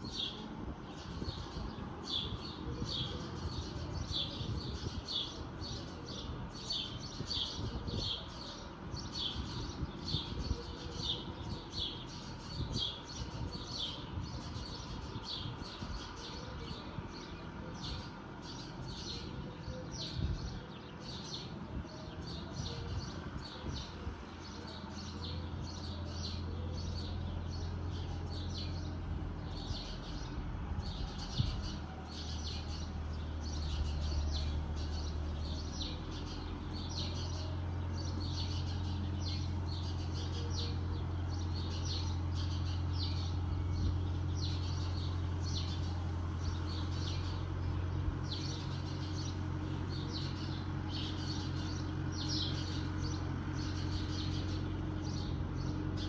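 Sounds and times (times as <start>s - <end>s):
bird chirping: 0.0s - 56.0s
distant tractor engine drone: 10.3s - 56.0s.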